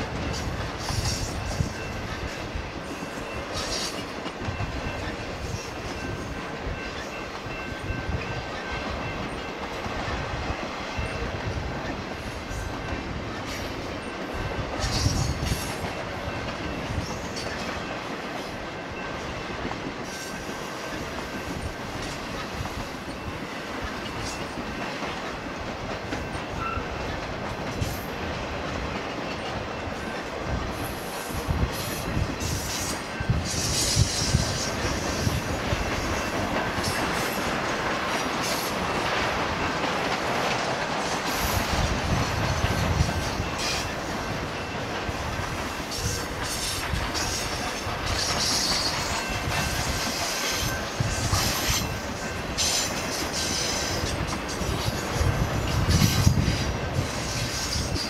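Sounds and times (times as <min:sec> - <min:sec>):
clickety-clack over rail joints: 0:00.0 - 0:58.0
loud train clatter: 0:00.0 - 0:58.0
train wheels rumbling on rail: 0:00.0 - 0:58.0.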